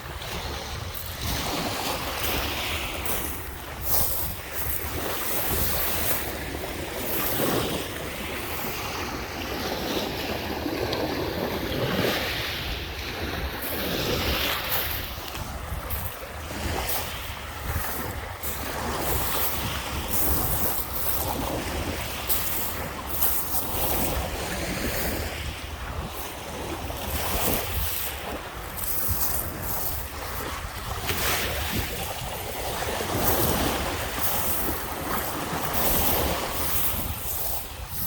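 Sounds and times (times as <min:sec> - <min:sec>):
waves washing onto beach: 0:00.0 - 0:38.0
wind buffeting microphone: 0:00.0 - 0:38.0.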